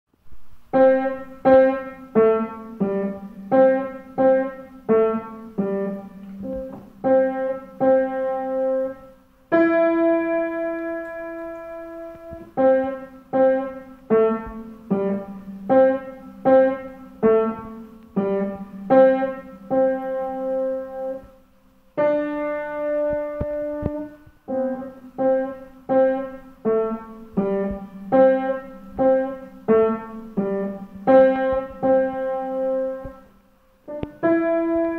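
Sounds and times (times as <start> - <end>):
solo piano boogie piece: 0.2 - 34.9.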